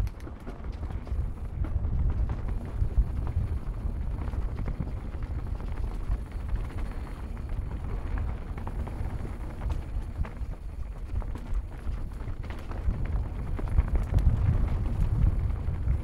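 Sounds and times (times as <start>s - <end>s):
bike rattling and clicking: 0.0s - 16.0s
bike tyre noise: 0.0s - 16.0s
wind noise on microphone: 0.0s - 16.0s.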